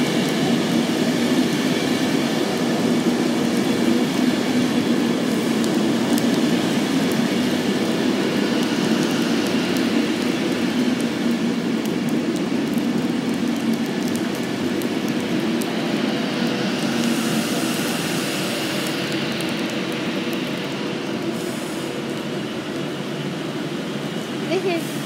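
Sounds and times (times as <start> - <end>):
train wheels on rail: 0.0 - 25.0.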